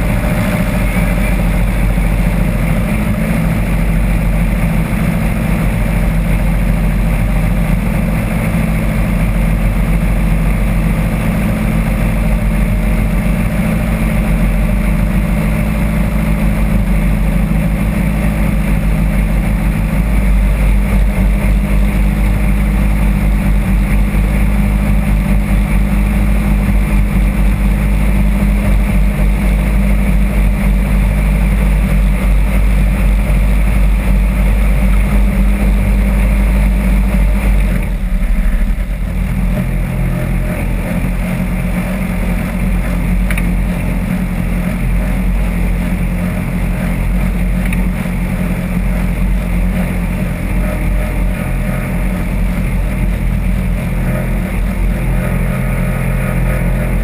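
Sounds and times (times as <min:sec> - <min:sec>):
buggy engine running under load: 0:00.0 - 0:57.0.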